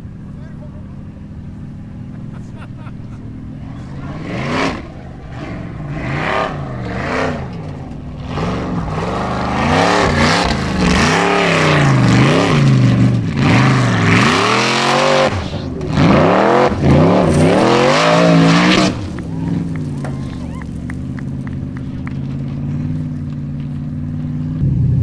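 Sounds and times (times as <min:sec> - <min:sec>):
buggy engine revving hard: 0:01.0 - 0:25.0.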